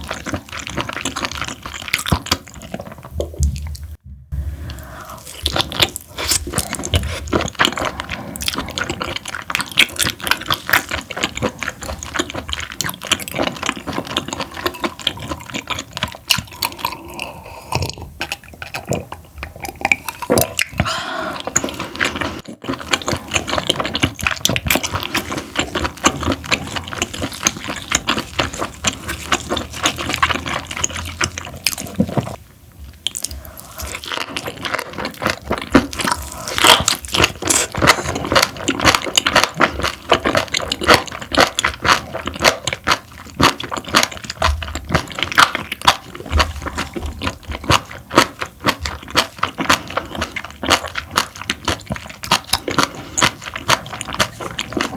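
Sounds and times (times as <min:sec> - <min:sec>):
wet chewing and squishing: 0:00.0 - 0:04.0, 0:04.7 - 0:54.9.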